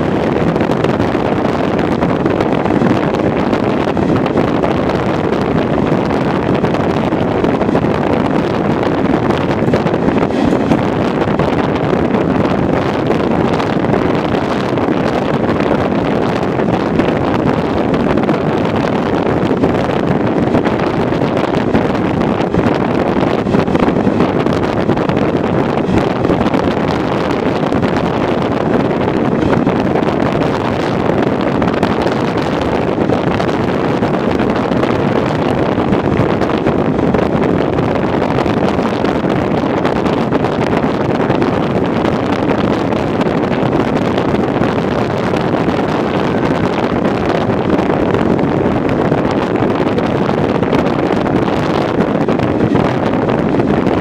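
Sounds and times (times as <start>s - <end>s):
train running rumble: 0.0s - 54.0s
wind rushing on microphone: 0.0s - 54.0s.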